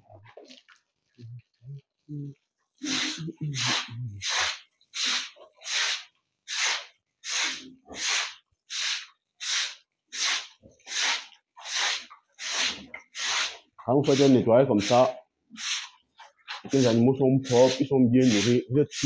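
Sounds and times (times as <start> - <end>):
broom sweeping wet concrete: 2.8 - 19.0.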